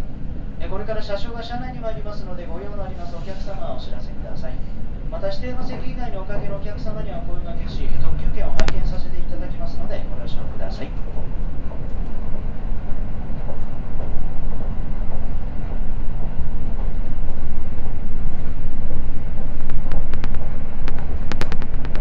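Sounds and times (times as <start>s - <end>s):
train rumbling inside carriage: 0.0s - 22.0s.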